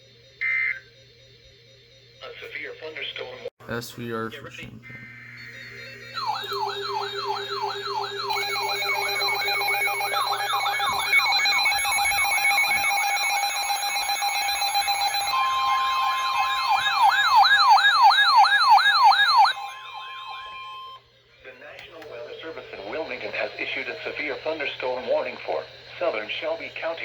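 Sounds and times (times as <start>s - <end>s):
yelping electronic siren: 0.3s - 2.4s, 4.9s - 26.5s
steady high alert tone: 5.0s - 27.0s.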